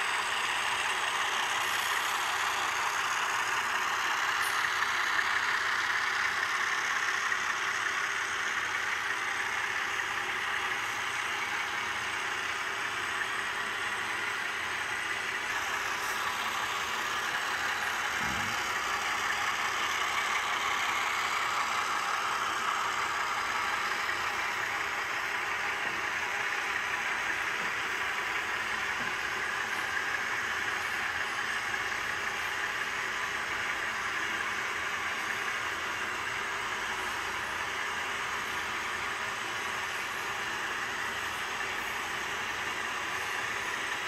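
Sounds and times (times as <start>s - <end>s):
model train wheels on rails: 0.0s - 44.0s
motor hum: 0.0s - 44.0s.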